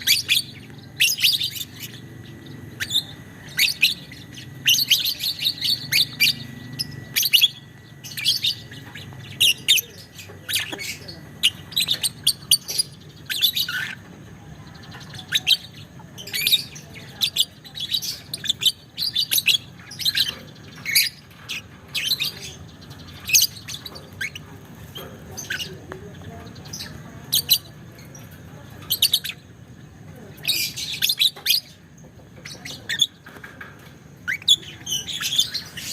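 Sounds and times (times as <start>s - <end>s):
lovebird chirping: 0.0s - 35.9s.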